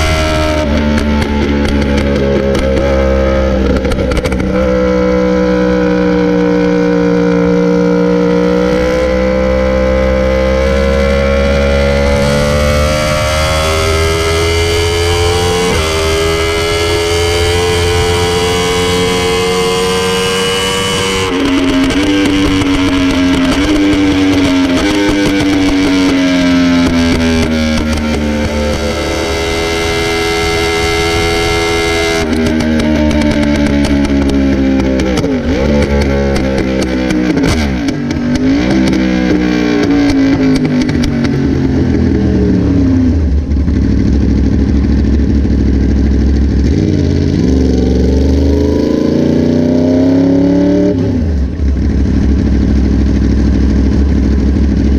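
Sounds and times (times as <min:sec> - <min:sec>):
motorcycle engine revving through gears: 0:00.0 - 0:54.9.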